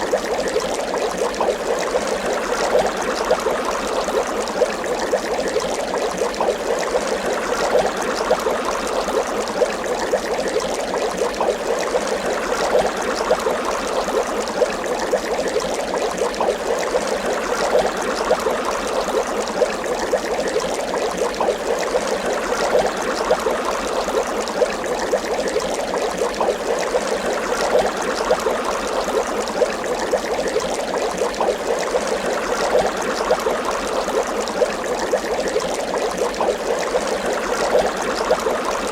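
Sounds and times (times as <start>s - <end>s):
water bubbling: 0.0s - 38.9s.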